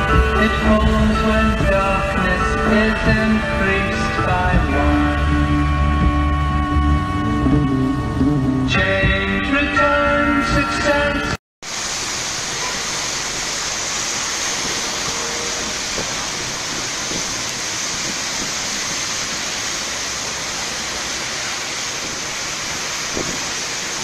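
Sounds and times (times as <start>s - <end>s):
rain on a wet street: 0.0s - 24.0s.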